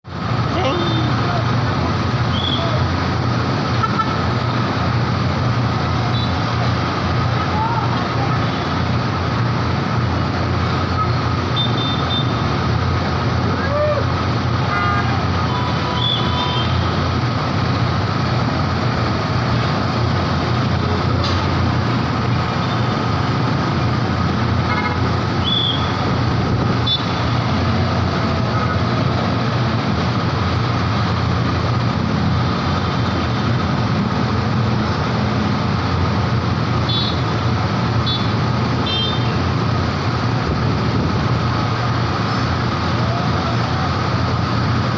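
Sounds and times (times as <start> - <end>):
vehicle engine humming: 0.0 - 44.9.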